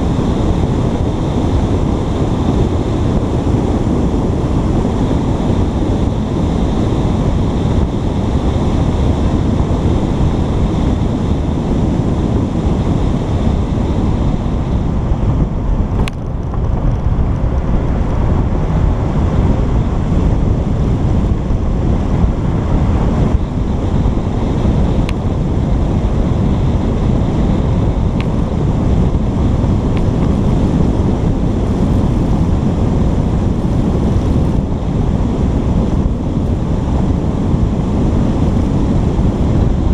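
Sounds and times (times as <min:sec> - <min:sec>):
loud wind rumble: 0:00.0 - 0:39.9.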